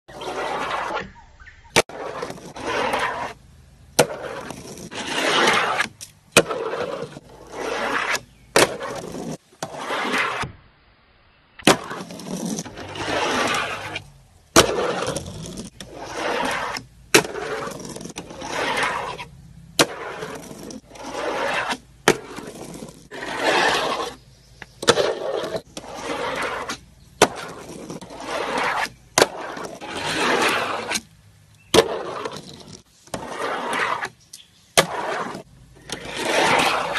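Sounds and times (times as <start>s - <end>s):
fingerboard wheels rolling: 0.1s - 10.6s, 11.6s - 36.9s.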